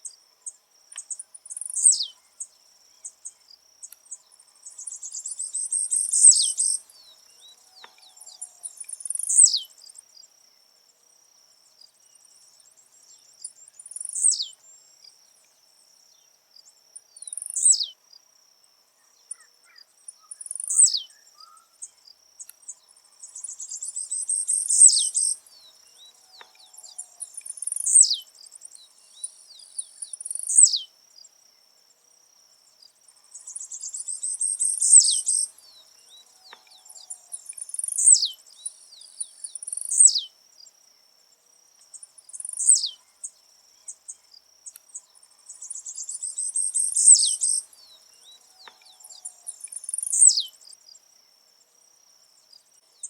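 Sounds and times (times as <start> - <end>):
bird buzzy song: 0.0 - 18.3, 18.9 - 31.7, 32.6 - 41.2, 41.8 - 51.4
high insect trill: 0.0 - 53.0.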